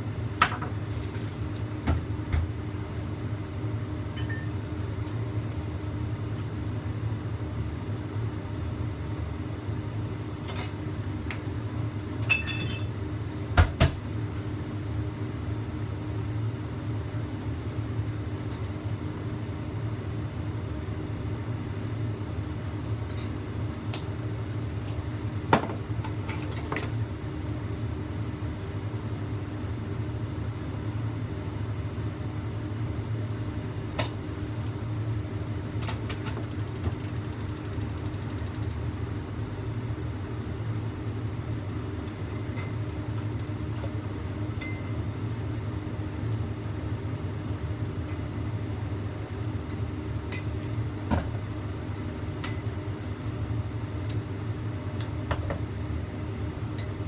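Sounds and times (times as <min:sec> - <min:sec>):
gas burner hum and rumble: 0:00.0 - 0:57.0.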